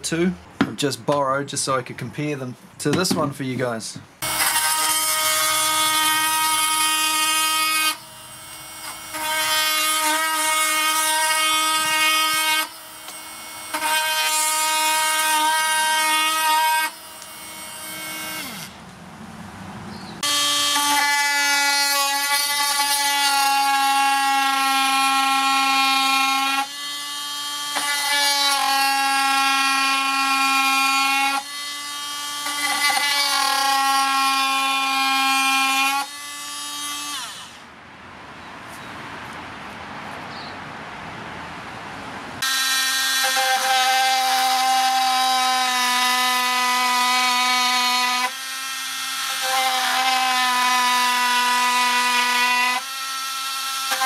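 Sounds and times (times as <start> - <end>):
oscillating multi-tool cutting wood: 4.2 - 18.8, 20.2 - 37.7, 42.4 - 54.0.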